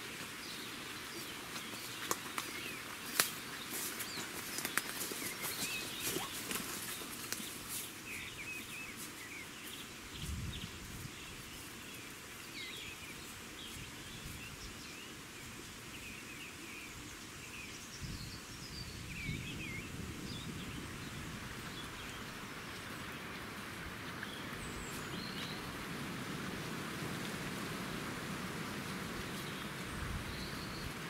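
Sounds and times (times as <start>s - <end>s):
steady outdoor hiss: 0.0s - 31.0s
small birds chirping: 0.3s - 23.3s, 24.0s - 25.7s, 29.2s - 31.0s.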